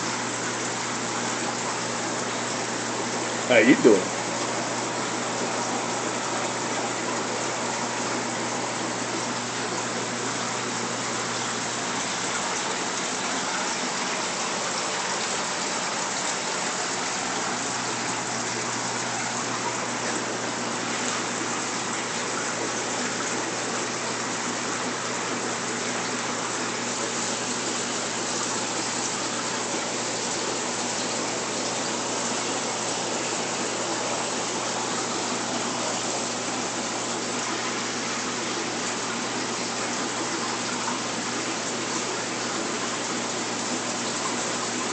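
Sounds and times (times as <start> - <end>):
splashing water rushing: 0.0 - 44.9.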